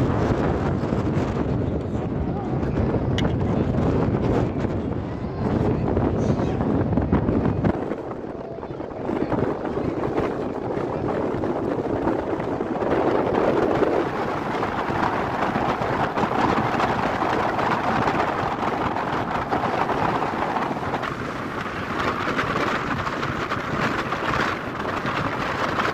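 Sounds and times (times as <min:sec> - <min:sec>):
steady rushing noise: 0:00.0 - 0:25.9.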